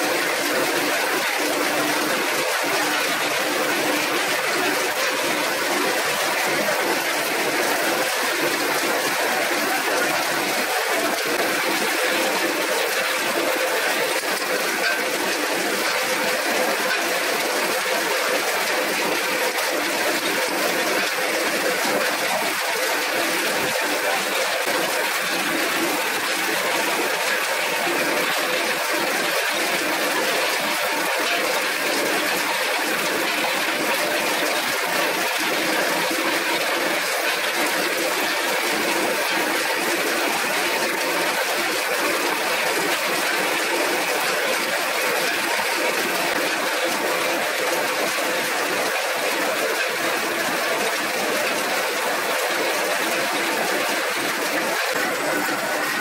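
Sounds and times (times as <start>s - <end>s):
printing press running: 0.0s - 56.0s.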